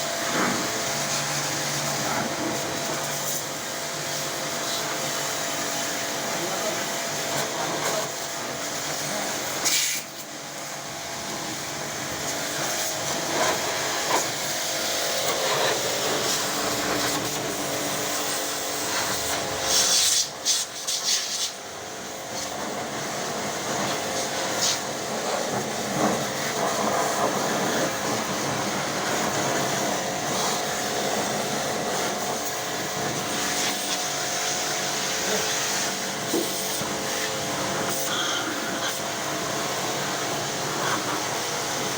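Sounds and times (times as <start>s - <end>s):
pressure washer motor whine: 0.0s - 41.9s.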